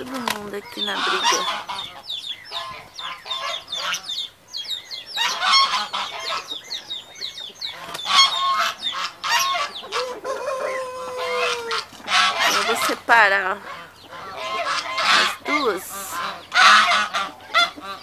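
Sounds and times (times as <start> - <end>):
chickens squabbling: 0.0 - 18.0.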